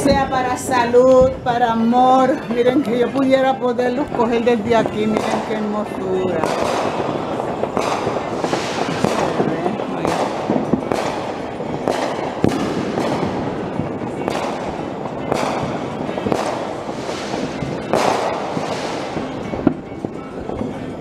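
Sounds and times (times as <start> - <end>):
firecrackers crackling: 0.0 - 21.0
fireworks bangs echoing: 0.0 - 21.0.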